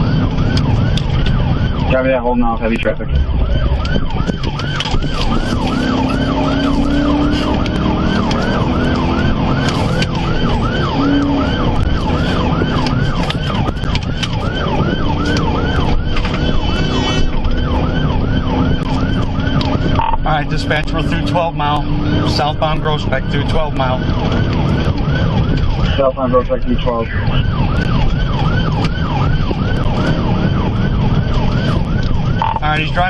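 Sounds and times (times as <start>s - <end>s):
car engine and road noise: 0.0s - 33.0s
police siren yelping: 0.0s - 33.0s.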